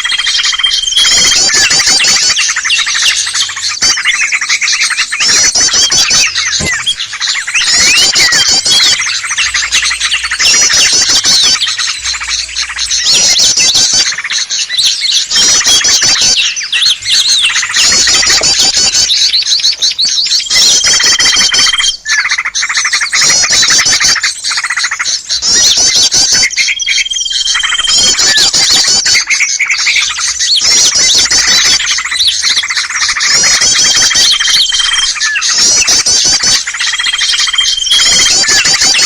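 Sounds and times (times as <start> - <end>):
small birds chirping and trilling: 0.0 - 39.0.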